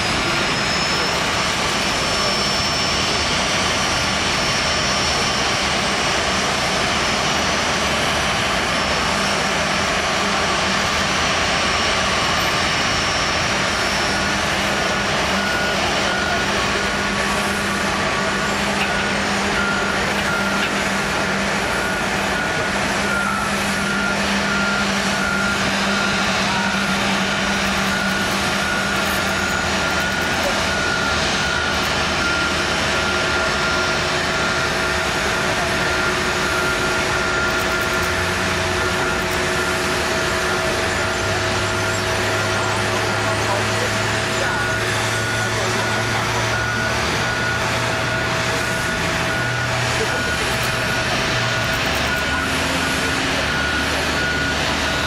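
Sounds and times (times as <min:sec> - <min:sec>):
high steady whine: 0:00.0 - 0:55.0
jet engine noise: 0:00.0 - 0:55.0
reversing beeper: 0:00.0 - 0:55.0.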